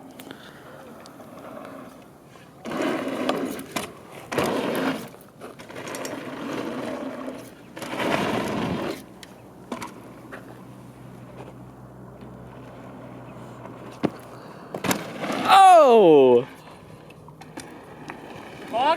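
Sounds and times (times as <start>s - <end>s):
bike tyres rolling with rattles: 0.4s - 18.9s.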